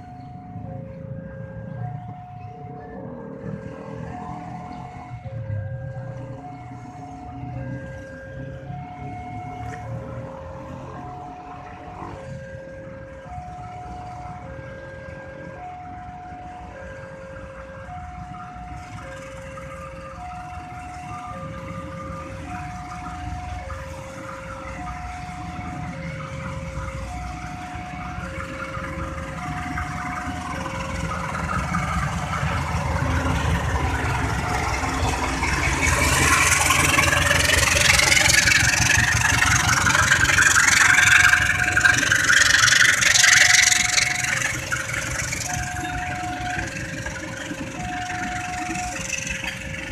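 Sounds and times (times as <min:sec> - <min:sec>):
level-crossing alarm tones: 0:00.0 - 0:49.9
train passing with clattering wheels: 0:00.0 - 0:49.9
vehicle engines idling: 0:00.0 - 0:49.9.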